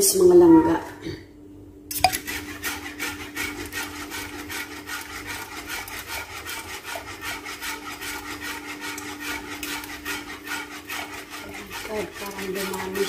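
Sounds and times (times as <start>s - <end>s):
utensil scraping in a bowl: 2.1s - 13.0s.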